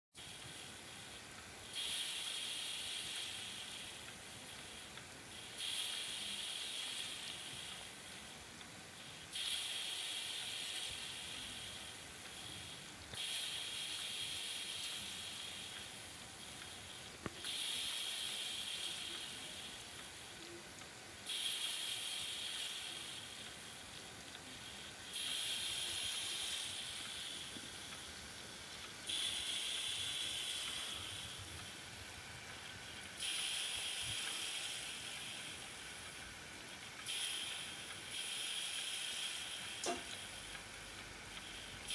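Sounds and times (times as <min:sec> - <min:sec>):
steam exhaust hissing in puffs: 0:00.2 - 0:41.9.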